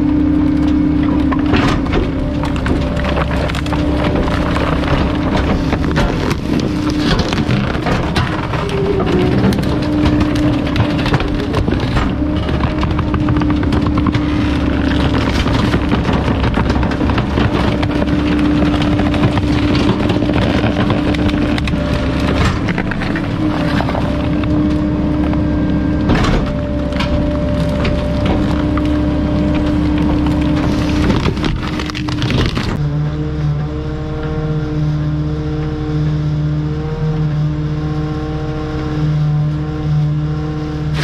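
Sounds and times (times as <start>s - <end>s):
knocks and rattles: 0.0s - 32.8s
garbage truck whining: 0.0s - 41.0s.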